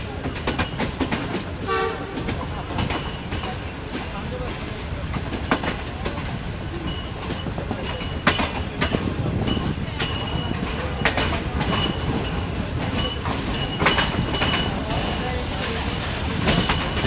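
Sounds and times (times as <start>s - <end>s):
train rumbling on rails: 0.0s - 17.0s
wheels clacking over rail joints: 0.0s - 17.0s.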